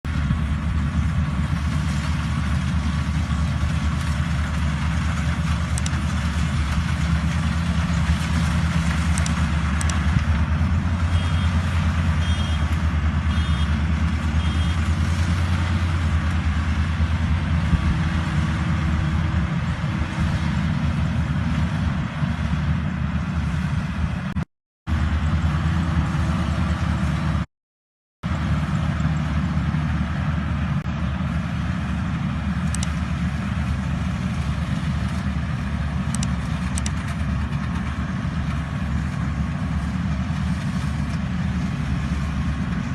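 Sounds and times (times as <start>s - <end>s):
thresher engine humming: 0.0s - 27.5s, 28.2s - 42.9s.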